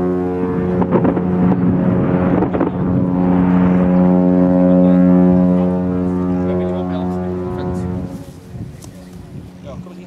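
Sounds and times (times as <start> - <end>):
ship horn long blast: 0.0 - 8.7.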